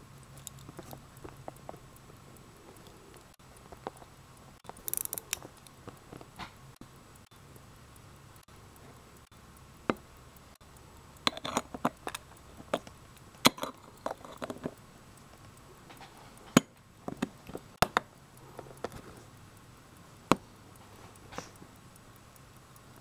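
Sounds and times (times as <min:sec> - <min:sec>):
pocket watch clicks and clinks: 0:00.2 - 0:06.6, 0:09.2 - 0:23.0.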